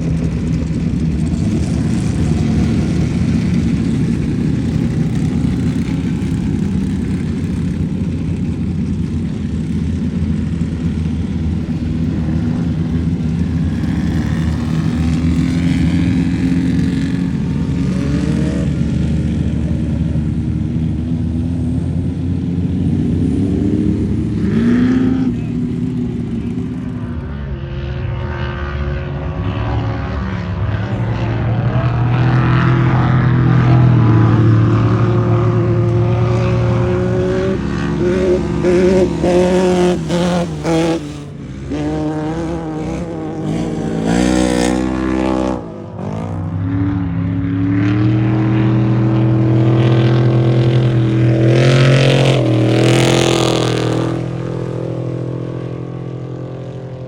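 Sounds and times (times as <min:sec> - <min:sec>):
off-road vehicle engines running: 0:00.0 - 0:57.0.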